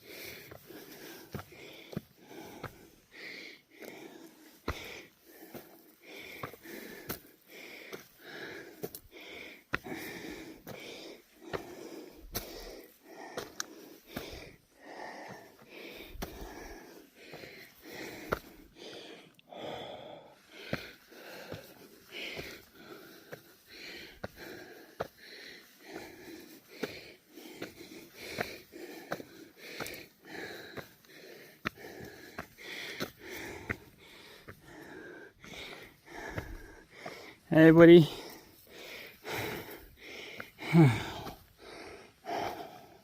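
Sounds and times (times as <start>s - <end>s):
person breathing hard and wheezing: 0.0s - 43.0s.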